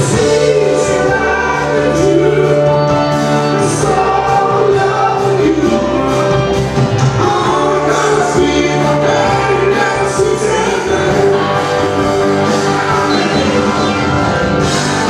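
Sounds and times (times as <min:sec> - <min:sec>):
person singing: 0:00.0 - 0:14.3
bass guitar: 0:00.0 - 0:15.0
drums: 0:00.0 - 0:15.0
guitars: 0:00.0 - 0:15.0.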